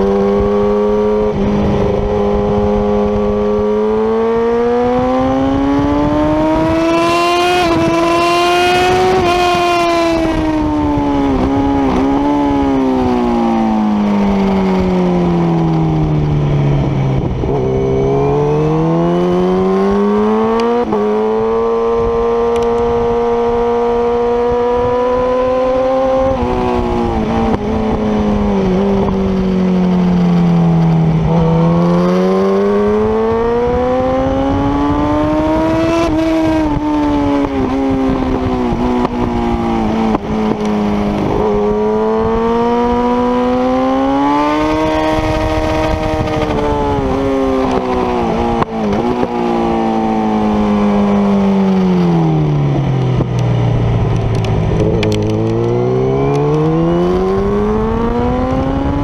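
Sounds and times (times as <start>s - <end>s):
motorcycle engine at speed: 0.0s - 59.0s
wind rushing over microphone: 0.0s - 59.0s.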